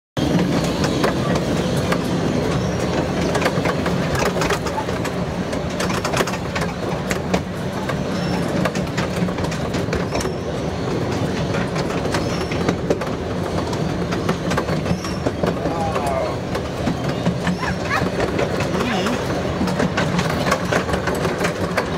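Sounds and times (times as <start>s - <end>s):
train rumbling: 0.2s - 21.9s
wheels clicking over rail joints: 0.2s - 21.9s.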